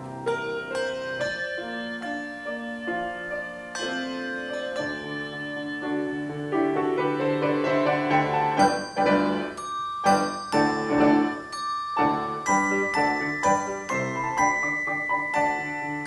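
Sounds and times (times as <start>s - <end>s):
handbells playing a hymn: 0.0s - 16.0s.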